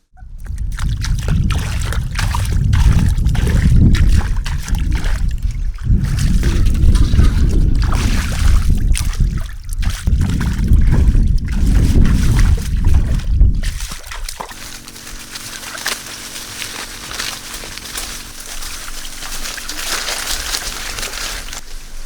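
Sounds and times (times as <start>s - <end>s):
faint steady hum: 0.2s - 22.0s
heavy low rumble: 0.2s - 22.0s
water sloshing and splashing: 0.4s - 21.8s.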